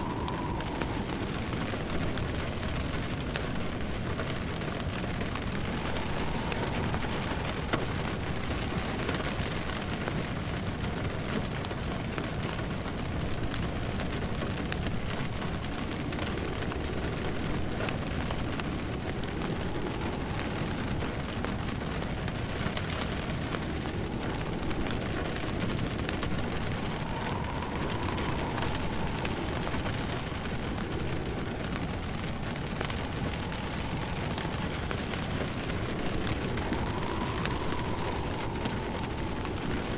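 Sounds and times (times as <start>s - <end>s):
fire crackling in fireplace: 0.0s - 39.9s
steady rain falling: 0.0s - 39.9s.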